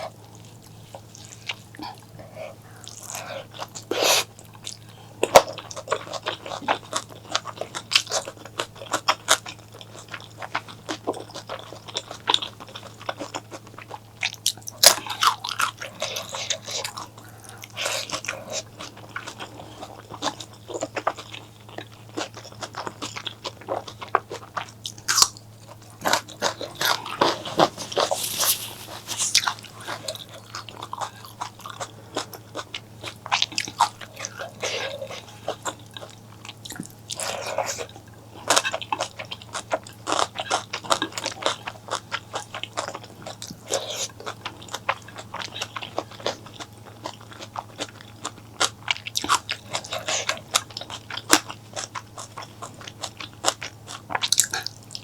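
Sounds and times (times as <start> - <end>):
crunching and chewing food: 0.0 - 55.0.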